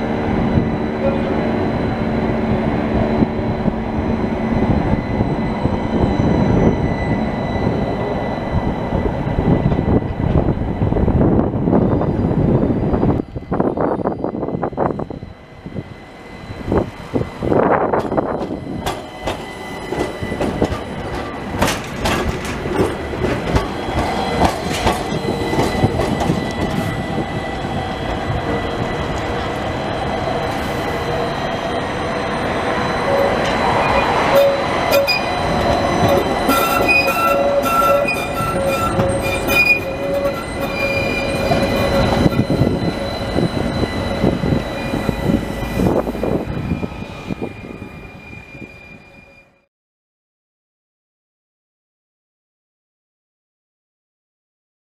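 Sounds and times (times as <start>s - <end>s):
tram wheels rumbling on rails: 0.0s - 49.5s
tram wheels squealing on rails: 0.0s - 49.7s.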